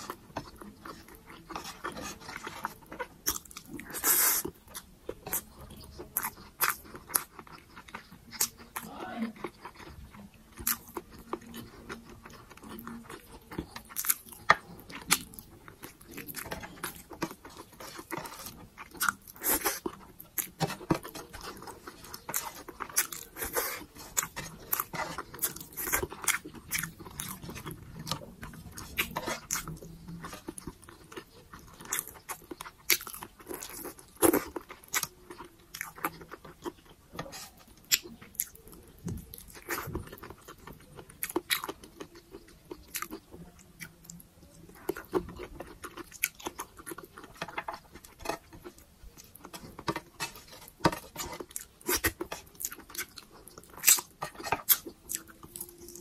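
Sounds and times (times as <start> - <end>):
chewing and smacking: 0.0 - 56.0.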